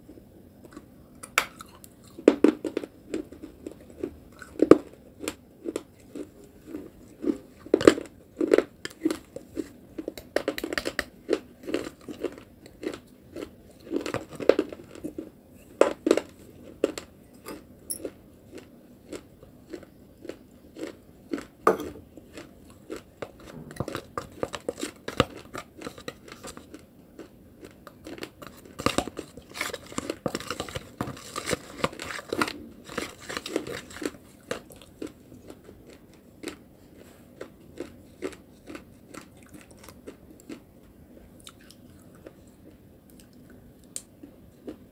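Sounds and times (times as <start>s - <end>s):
person chewing and crunching: 0.0s - 44.9s.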